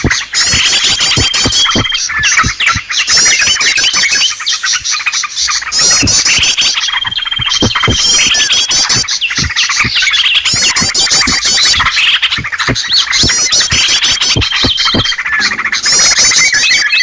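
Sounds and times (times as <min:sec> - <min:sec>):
sharp clicks: 0:00.0 - 0:03.2, 0:04.7 - 0:15.3
bulbul calls: 0:00.0 - 0:17.0
small birds chirping and trilling: 0:00.0 - 0:17.0.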